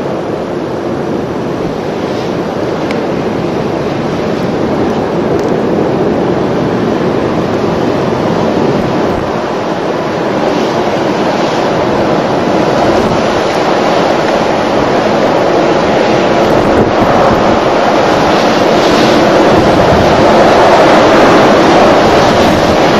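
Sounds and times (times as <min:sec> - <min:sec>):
blizzard wind buffeting microphone: 0:00.0 - 0:22.9.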